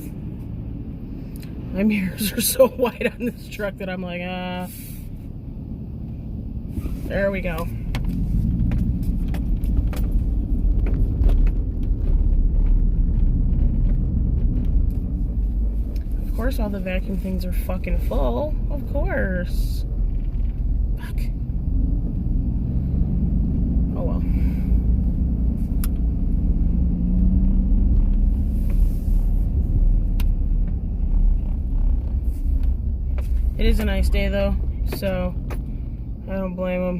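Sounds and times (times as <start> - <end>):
truck engine and tyres rumbling: 0.0 - 36.9.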